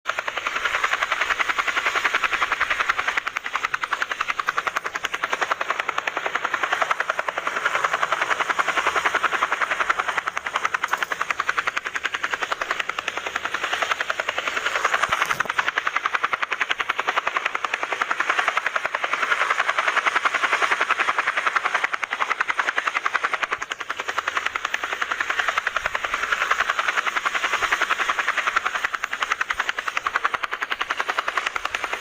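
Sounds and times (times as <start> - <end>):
helicopter rotor blades chopping: 0.0 - 32.0.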